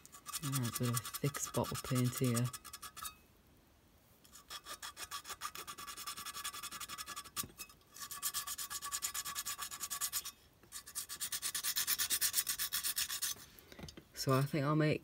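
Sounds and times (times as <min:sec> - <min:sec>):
sandpaper scraping metal: 0:00.0 - 0:03.2, 0:04.3 - 0:13.5.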